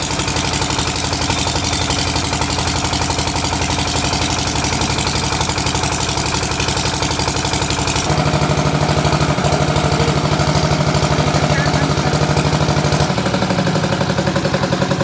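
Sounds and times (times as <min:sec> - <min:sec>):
generator engine running: 0:00.0 - 0:15.0
strong low hum: 0:01.8 - 0:14.2.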